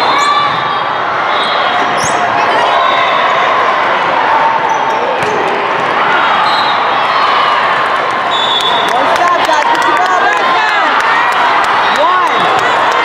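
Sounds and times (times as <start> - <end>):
crowd noise in a hall: 0.0 - 13.0.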